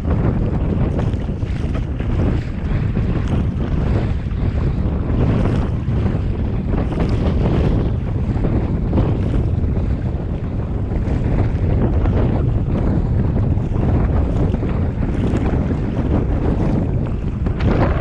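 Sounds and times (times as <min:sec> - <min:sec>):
water lapping around kayak: 0:00.0 - 0:18.0
wind buffeting microphone: 0:00.0 - 0:18.0.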